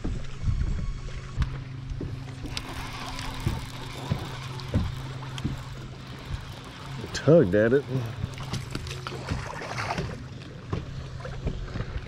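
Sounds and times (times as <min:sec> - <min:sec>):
steady low hum: 0:00.0 - 0:12.0
water lapping against boat hull: 0:00.0 - 0:12.0.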